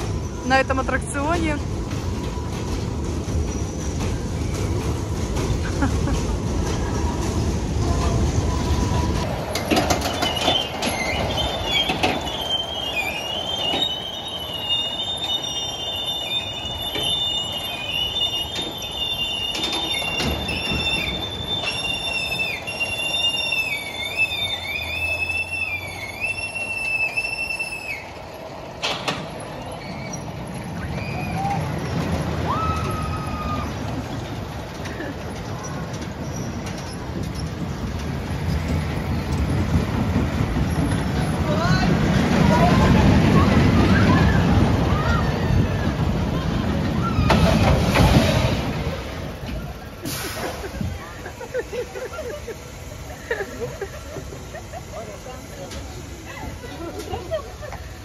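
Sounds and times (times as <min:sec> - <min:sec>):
ride cars rumbling: 0:00.0 - 0:58.0
wheels squealing on track: 0:00.0 - 0:58.0.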